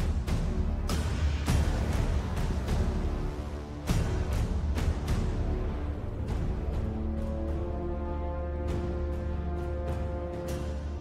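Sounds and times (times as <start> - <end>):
music with deep bass: 0.0 - 11.0.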